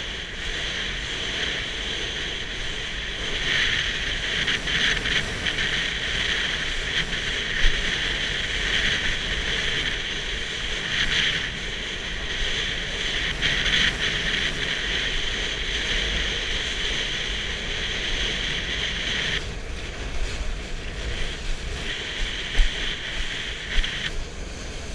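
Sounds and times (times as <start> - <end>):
water rushing under kiteboard: 0.0 - 24.9
wind buffeting microphone: 0.0 - 24.9.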